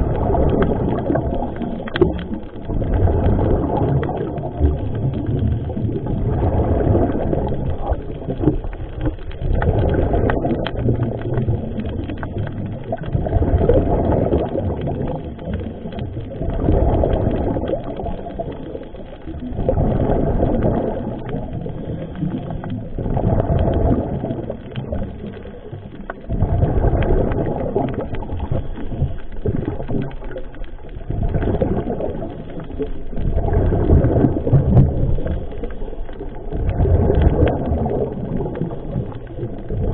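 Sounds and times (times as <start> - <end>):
exhaled bubbles gurgling underwater: 0.0 - 39.9.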